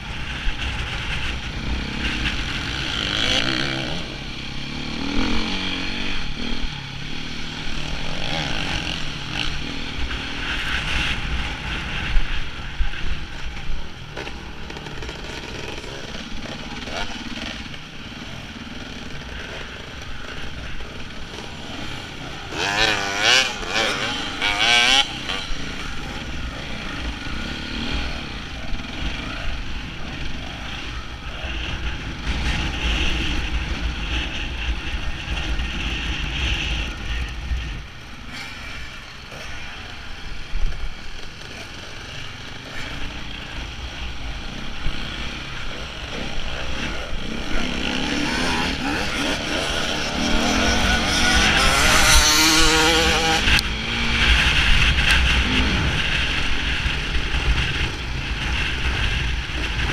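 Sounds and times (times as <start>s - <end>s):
another dirt bike revving: 0.0s - 59.9s
motorcycle engine revving: 0.0s - 59.9s
wind rumbling on microphone: 0.0s - 59.9s.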